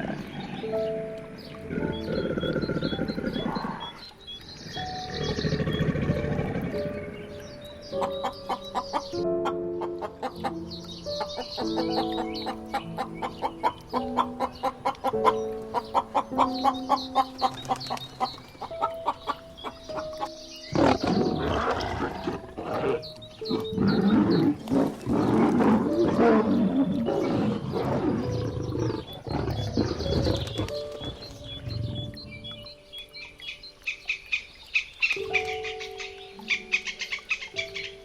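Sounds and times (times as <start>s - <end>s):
light music with plucked notes: 0.0s - 34.1s, 35.0s - 38.0s.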